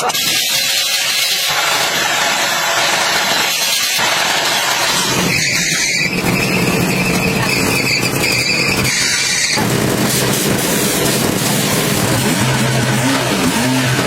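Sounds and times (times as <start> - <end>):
high-pitched squeal: 0.0 - 14.0
vehicle engine running: 0.0 - 14.0.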